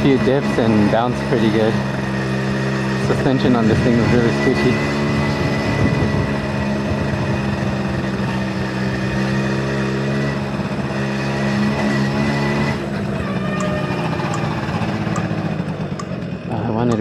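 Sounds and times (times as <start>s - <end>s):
two-stroke engine cruising: 0.0s - 17.0s.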